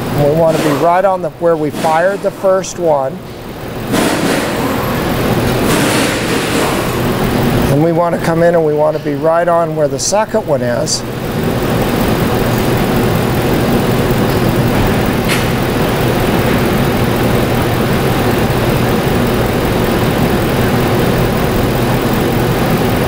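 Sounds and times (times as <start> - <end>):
misfiring engine idling: 0.0 - 23.0.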